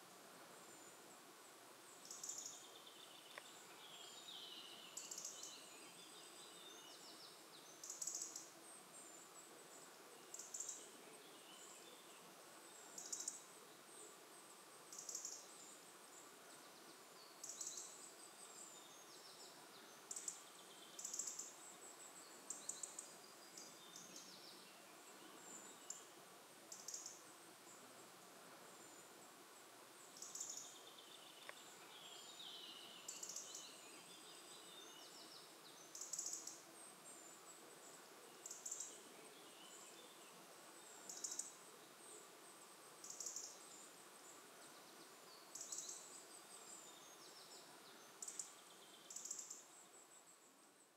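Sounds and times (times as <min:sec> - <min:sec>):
faint birdsong: 0:00.0 - 0:50.9
forest ambience hiss: 0:00.0 - 0:50.9.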